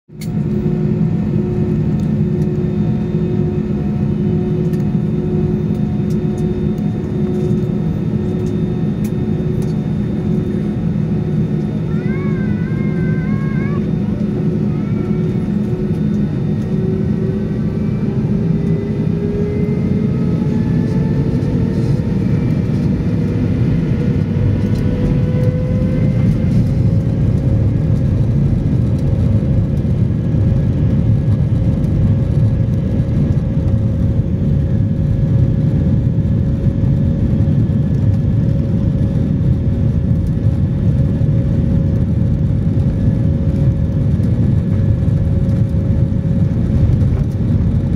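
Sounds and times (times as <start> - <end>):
deep constant rumble: 0.1 - 47.9
jet engine whine: 0.1 - 47.9.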